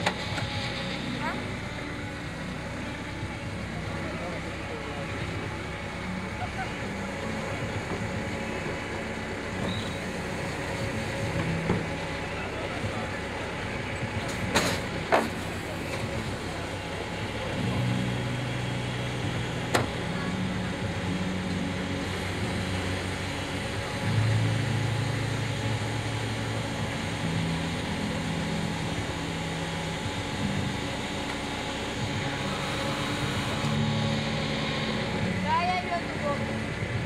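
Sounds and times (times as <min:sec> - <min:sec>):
hydraulic test rig drone: 0:00.0 - 0:37.0.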